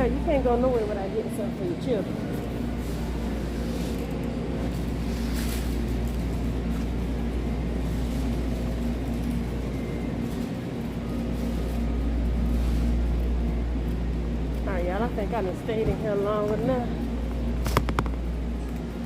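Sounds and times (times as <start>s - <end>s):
low machine hum with tones: 0.0s - 19.0s.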